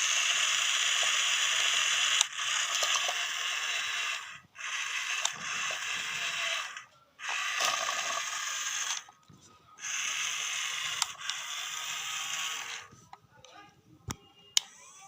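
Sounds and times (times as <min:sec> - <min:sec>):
toy electric motors whirring: 0:00.0 - 0:13.0, 0:14.6 - 0:15.0.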